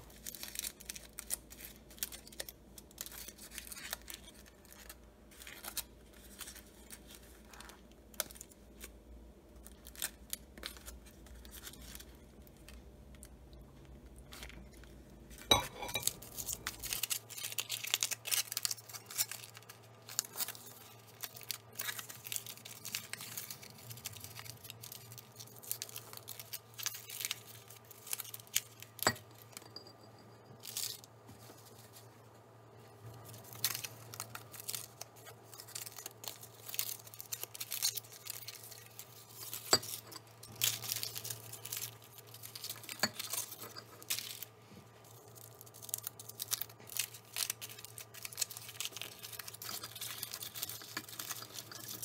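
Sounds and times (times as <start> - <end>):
aluminium foil crinkling and tearing: 0.0 - 29.6, 30.6 - 32.2, 33.1 - 52.0.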